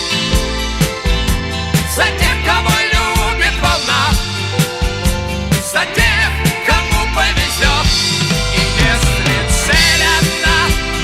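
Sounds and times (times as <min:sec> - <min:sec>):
bass: 0:00.0 - 0:11.0
bending lead guitar melody: 0:00.0 - 0:11.0
steady drum beat: 0:00.0 - 0:11.0.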